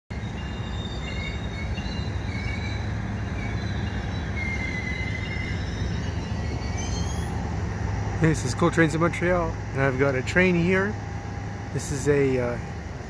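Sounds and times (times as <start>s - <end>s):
locomotive idling rumble: 0.1s - 13.0s.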